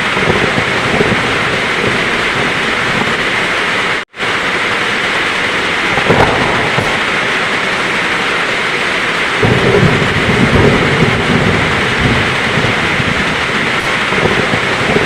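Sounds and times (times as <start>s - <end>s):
heavy rain falling: 0.0s - 15.0s
low rumble of thunder: 0.0s - 15.0s.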